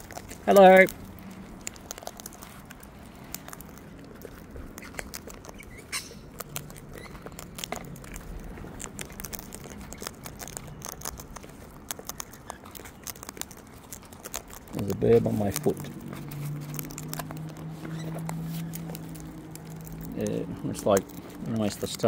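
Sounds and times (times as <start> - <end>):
cockatoos cracking seeds: 0.0 - 22.0.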